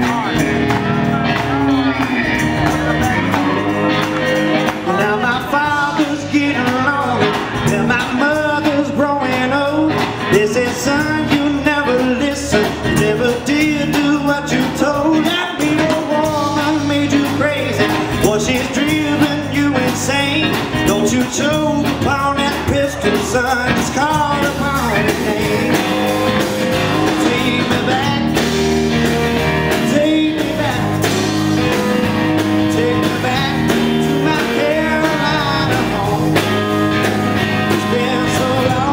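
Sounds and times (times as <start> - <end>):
blues-rock band playing: 0.0 - 38.9
lead guitar bent notes: 0.0 - 38.9.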